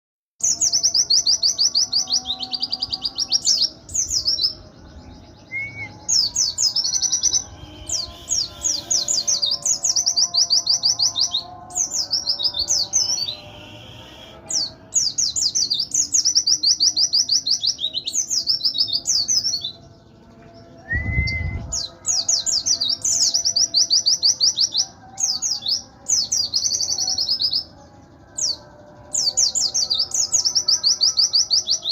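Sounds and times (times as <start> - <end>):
bird singing high trills: 0.4 - 31.9.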